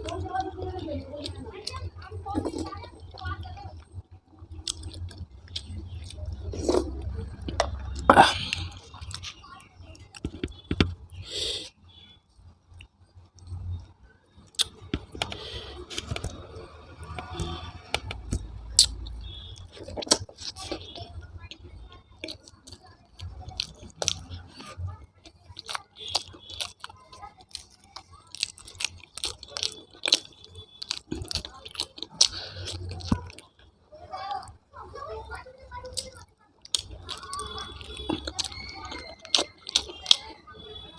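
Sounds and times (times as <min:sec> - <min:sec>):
person chewing food: 0:01.2 - 0:11.8, 0:14.5 - 0:33.7, 0:35.9 - 0:40.9.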